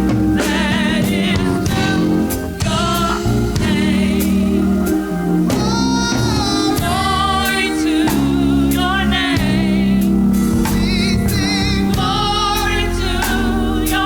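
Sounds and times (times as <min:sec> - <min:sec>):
gospel singing with vibrato: 0:00.0 - 0:14.0
sustained low chords: 0:00.0 - 0:14.0.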